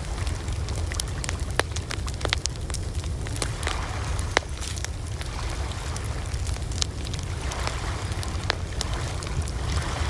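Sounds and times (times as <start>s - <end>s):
campfire crackling and popping: 0.0s - 10.0s
low rumble of fire: 0.0s - 10.0s.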